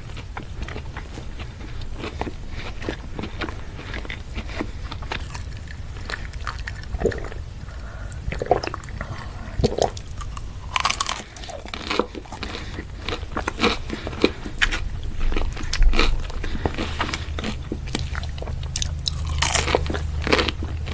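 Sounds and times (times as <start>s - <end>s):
low hum: 0.0s - 20.9s
person chewing crunchy food: 0.0s - 20.9s.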